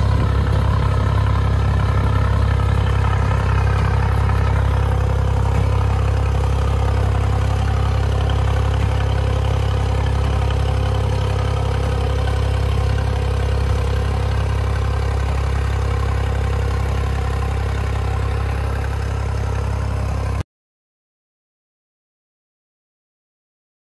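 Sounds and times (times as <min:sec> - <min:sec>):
tractor diesel engine running: 0:00.0 - 0:20.4.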